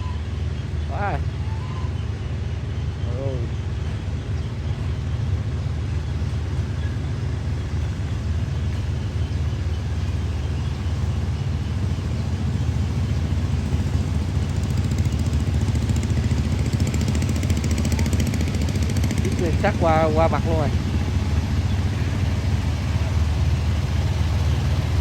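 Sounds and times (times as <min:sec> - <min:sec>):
harvester diesel engines rumbling: 0:00.0 - 0:25.0.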